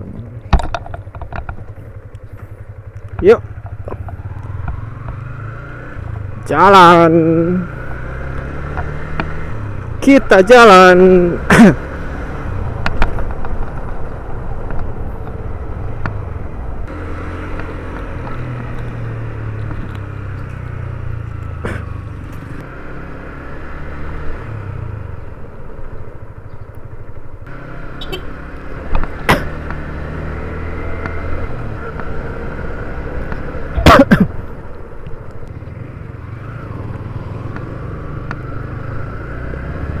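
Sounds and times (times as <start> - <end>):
motorcycle engine running: 0.0 - 40.0
road and wind noise: 0.0 - 40.0.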